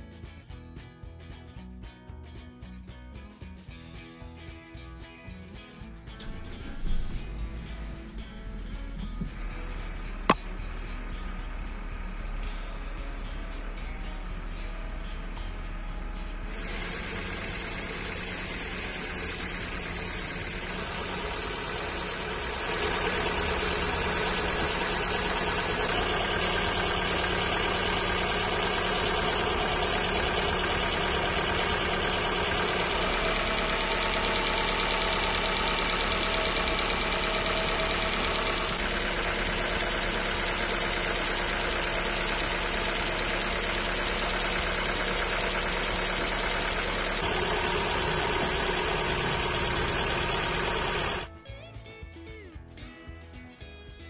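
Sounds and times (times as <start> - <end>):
car engine idling: 6.1 - 51.3
steady whine: 6.1 - 51.3.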